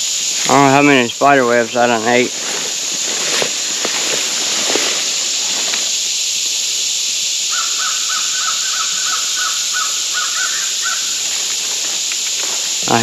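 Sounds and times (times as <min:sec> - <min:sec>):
steady high outdoor hiss: 0:00.0 - 0:13.0.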